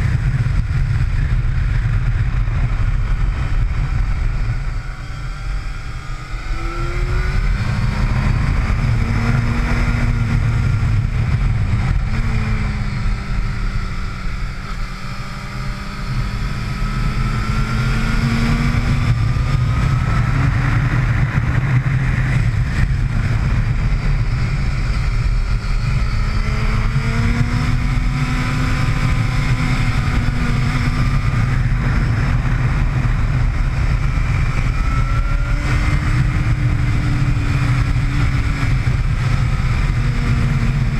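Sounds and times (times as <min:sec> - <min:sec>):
heavy low rumble: 0:00.0 - 0:40.9
motorcycle engine revving: 0:00.0 - 0:40.9.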